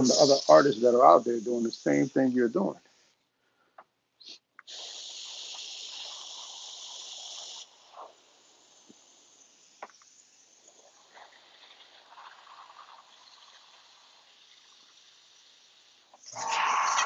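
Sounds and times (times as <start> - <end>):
airbrush hissing: 0.0 - 3.3, 4.1 - 17.0.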